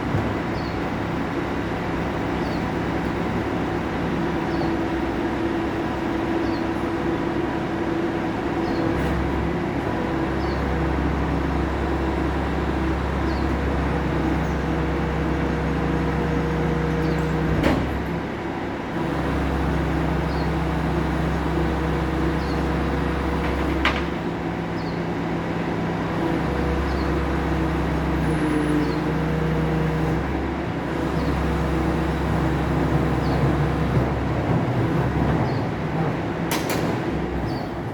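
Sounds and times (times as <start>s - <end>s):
garbage truck engine running: 0.0s - 37.9s.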